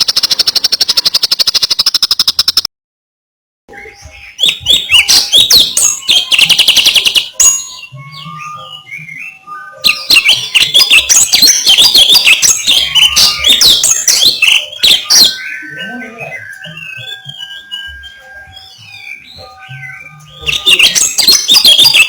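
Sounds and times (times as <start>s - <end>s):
songbird singing: 0.0s - 2.7s, 3.7s - 22.0s.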